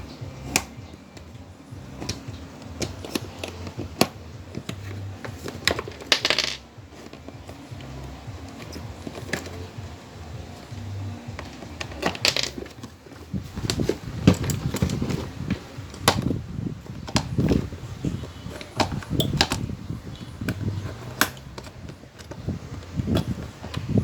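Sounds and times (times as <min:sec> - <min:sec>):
fan parts clicking and knocking: 0:00.0 - 0:24.0.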